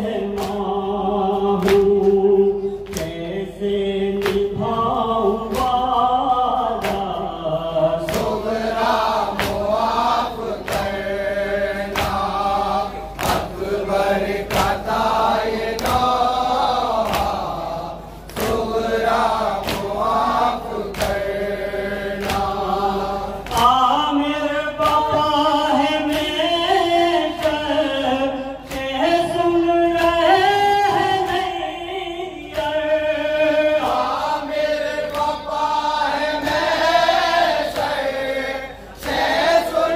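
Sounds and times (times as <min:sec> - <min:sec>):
lead reciter on microphone: 0:00.0 - 0:36.9
men chanting in unison: 0:00.0 - 0:39.9
rhythmic chest-beating slaps: 0:00.0 - 0:39.9.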